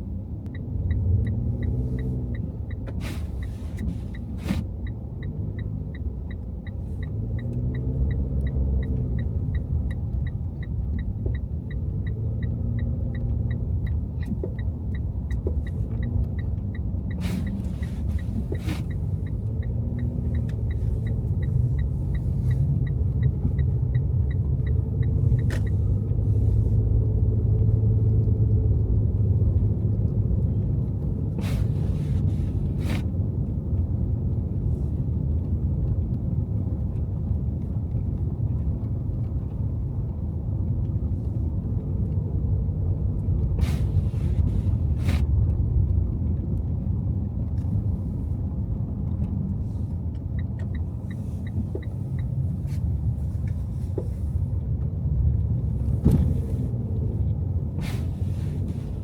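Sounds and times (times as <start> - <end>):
car engine and tyres rumbling: 0.0 - 59.0
turn signal ticking: 0.0 - 59.0.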